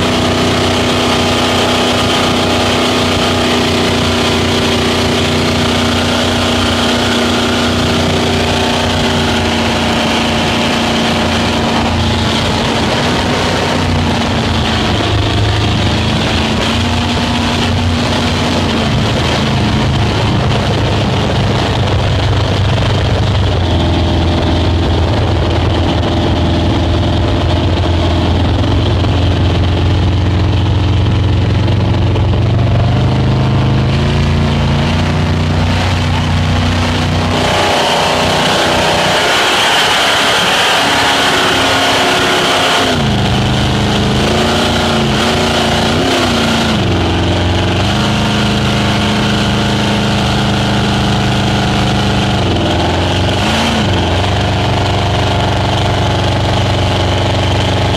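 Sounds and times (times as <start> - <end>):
rush of wind and water: 0.0 - 57.9
speedboat engine droning: 0.0 - 57.9.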